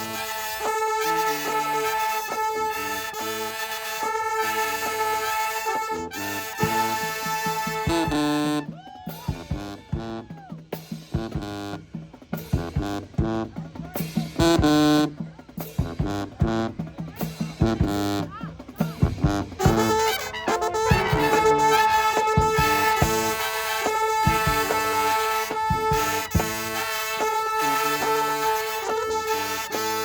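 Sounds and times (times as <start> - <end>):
marching band brass and drums: 0.0 - 30.0.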